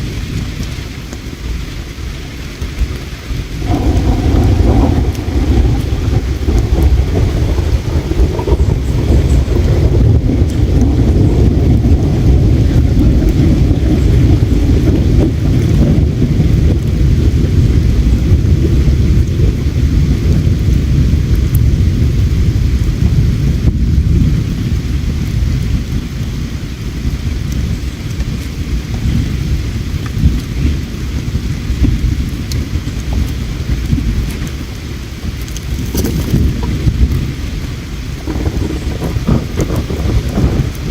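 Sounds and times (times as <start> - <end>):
faint campfire crackles: 0.0 - 40.9.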